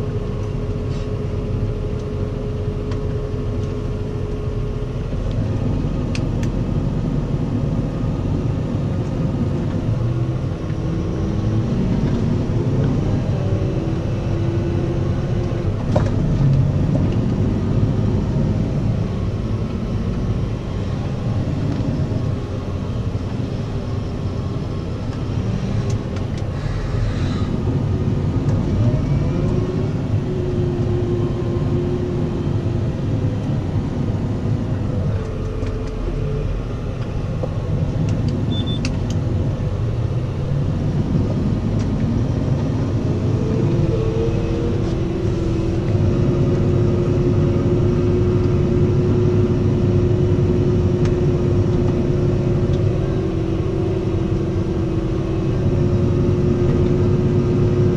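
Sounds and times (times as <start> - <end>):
tractor diesel engine drone: 0.0 - 57.9
transmission whine: 9.8 - 57.9.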